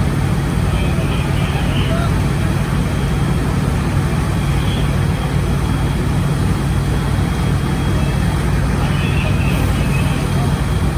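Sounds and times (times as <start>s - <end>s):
heavy engine idling: 0.0s - 10.9s.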